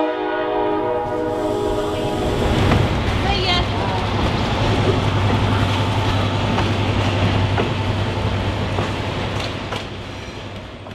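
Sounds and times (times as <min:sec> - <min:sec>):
train rumble: 0:00.4 - 0:10.9.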